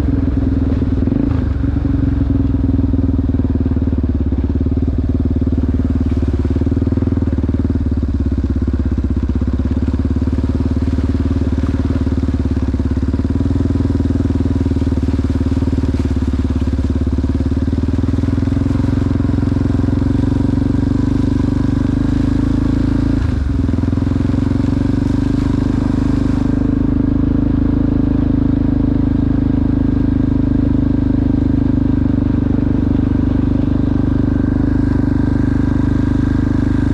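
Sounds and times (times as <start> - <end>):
atv engine running: 0.0 - 36.9.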